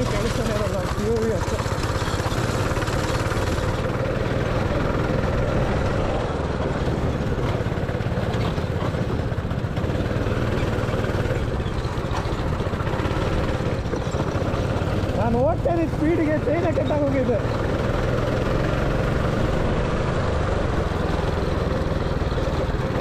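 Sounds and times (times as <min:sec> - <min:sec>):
go-kart engine running: 0:00.0 - 0:23.0
tyre and track noise: 0:00.0 - 0:23.0.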